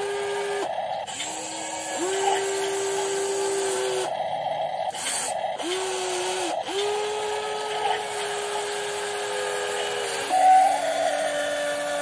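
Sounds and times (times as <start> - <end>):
electric motors whining: 0.0 - 12.0
mechanical grinding: 0.0 - 12.0.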